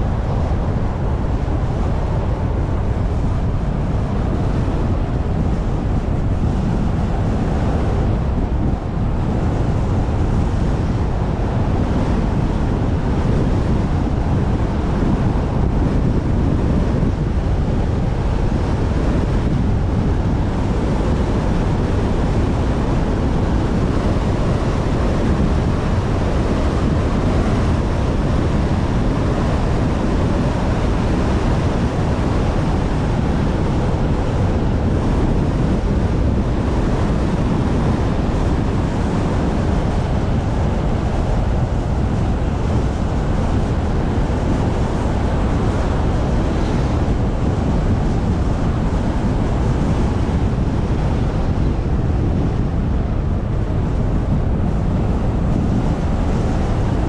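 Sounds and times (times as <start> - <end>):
car road noise: 0.0 - 57.0
wind buffeting microphone: 0.0 - 57.0.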